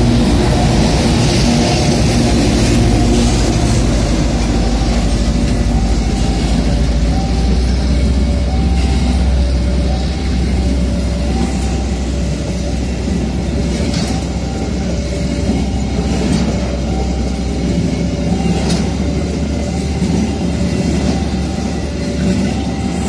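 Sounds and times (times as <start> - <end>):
freight train rolling past: 0.0 - 23.0
level crossing alarm: 0.0 - 23.0
wheels clacking over rail joints: 0.0 - 23.0.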